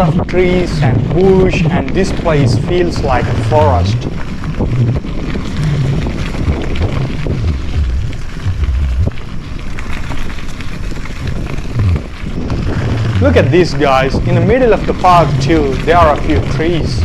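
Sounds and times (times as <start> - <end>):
bike tyres and frame rattling: 0.0 - 17.0
wind buffeting microphone: 0.0 - 17.0.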